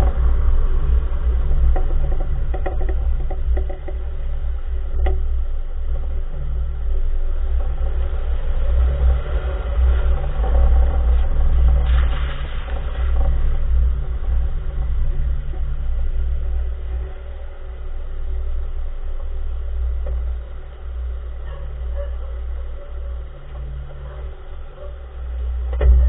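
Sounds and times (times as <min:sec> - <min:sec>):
road rumble: 0:00.0 - 0:26.0.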